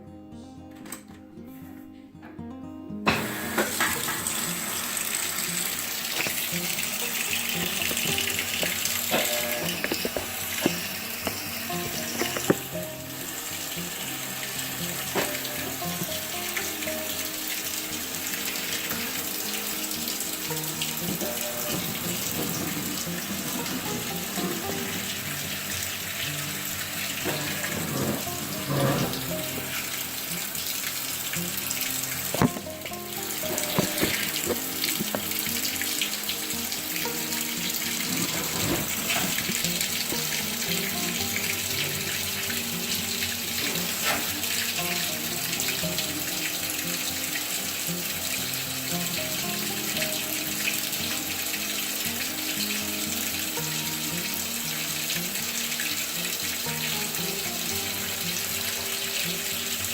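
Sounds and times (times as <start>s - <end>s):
water running into washing machine: 3.1s - 59.9s.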